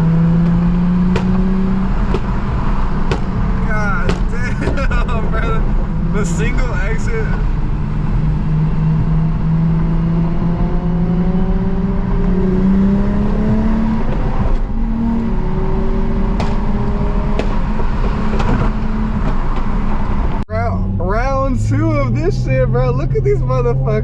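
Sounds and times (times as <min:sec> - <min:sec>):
car engine revving high: 0:00.0 - 0:24.0.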